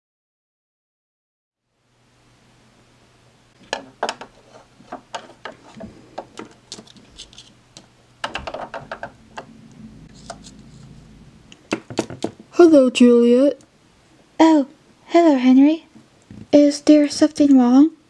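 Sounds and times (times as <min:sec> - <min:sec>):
steady low hum: 0:01.7 - 0:16.6.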